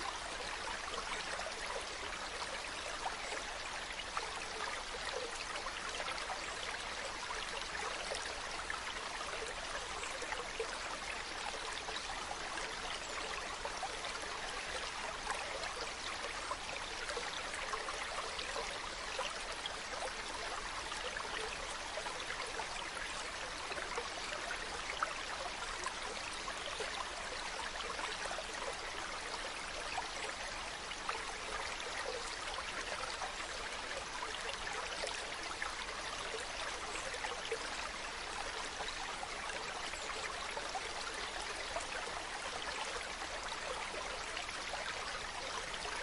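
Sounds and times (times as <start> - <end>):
stream flowing over rocks: 0.0 - 46.0.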